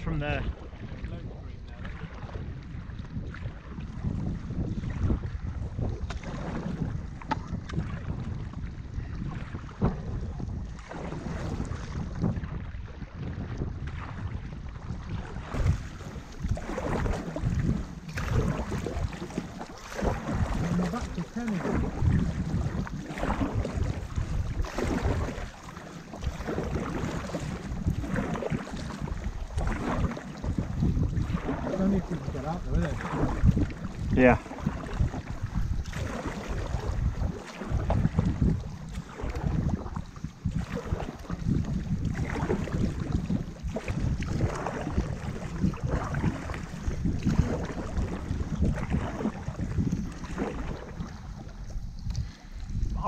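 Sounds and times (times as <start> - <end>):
paddle strokes splashing: 0.0 - 53.0
wind buffeting microphone: 0.0 - 53.0.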